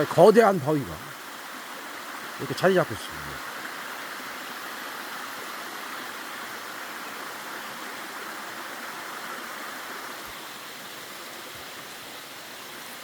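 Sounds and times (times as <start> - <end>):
stream flowing water: 0.0 - 13.0.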